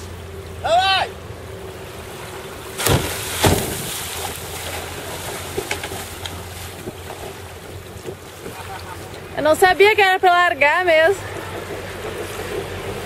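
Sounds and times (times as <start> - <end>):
water sloshing around hulls: 1.2 - 13.0
kayaks splashing onto water: 1.3 - 13.0.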